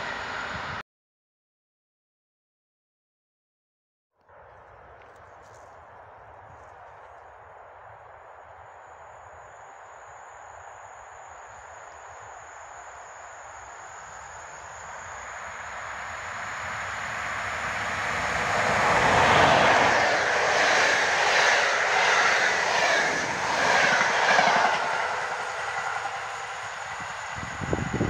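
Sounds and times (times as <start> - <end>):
electric locomotive passing: 0.0 - 0.8, 4.3 - 28.0
rhythmic clatter of train wheels: 4.4 - 28.0.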